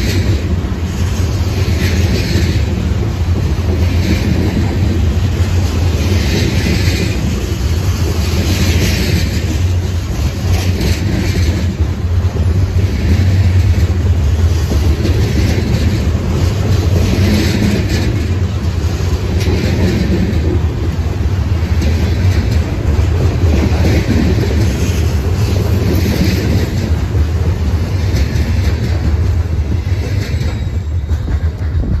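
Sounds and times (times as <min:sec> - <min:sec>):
freight train wheels rumbling: 0:00.0 - 0:32.0
train wheels clattering: 0:00.0 - 0:32.0.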